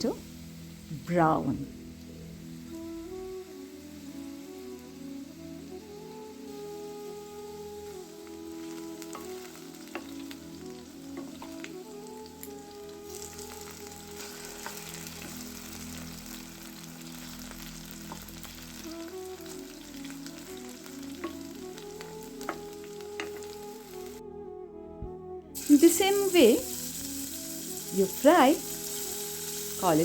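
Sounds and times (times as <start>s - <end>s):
potatoes sizzling in hot oil: 0.0s - 24.2s, 25.6s - 30.0s
soft background music: 0.0s - 30.0s.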